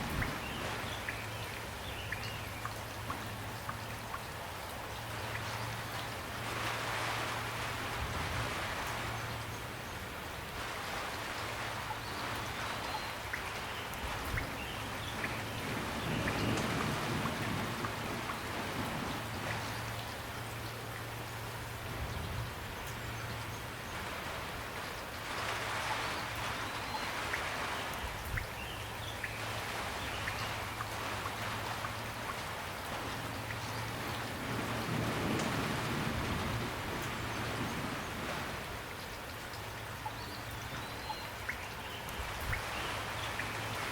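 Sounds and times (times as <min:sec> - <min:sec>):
raindrops ticking close by: 0:00.0 - 0:43.9
steady rain falling: 0:00.0 - 0:43.9.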